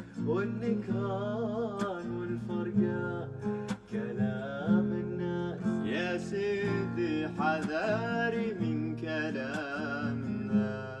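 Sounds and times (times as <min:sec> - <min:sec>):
man singing wordless melody: 0:00.0 - 0:11.0.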